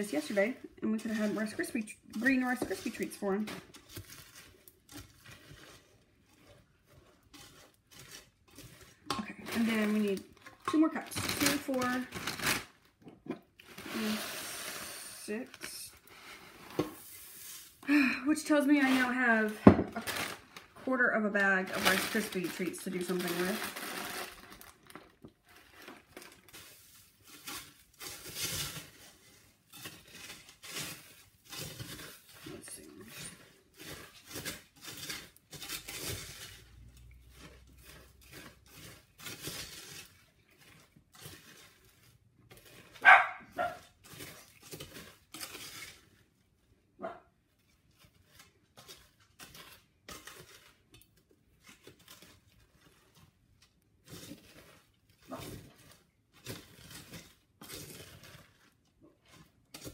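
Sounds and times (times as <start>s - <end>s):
spoon scraping cereal in metal bowl: 0.0s - 59.9s.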